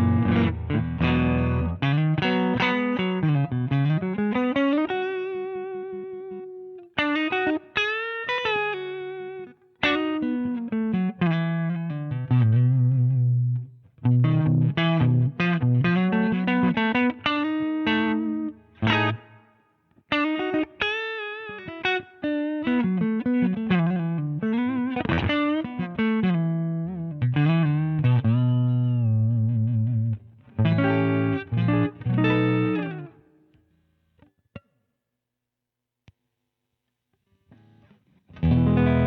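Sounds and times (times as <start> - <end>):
electric guitar with overdrive: 0.0 - 19.4, 20.1 - 33.2, 37.6 - 39.0.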